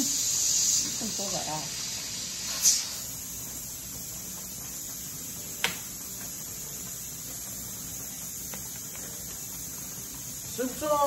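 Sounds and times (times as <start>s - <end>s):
pressure canner vent hissing: 0.0s - 11.0s.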